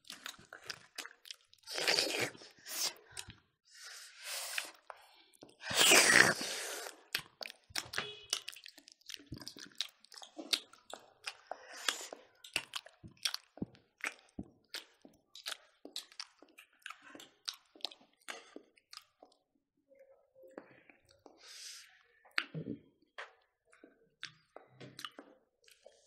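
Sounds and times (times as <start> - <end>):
people chewing with wet smacks: 0.0 - 26.0.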